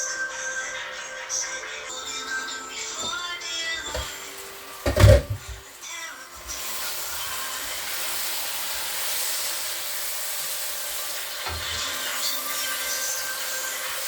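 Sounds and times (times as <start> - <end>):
food sizzling in a frying pan: 2.0 - 14.0.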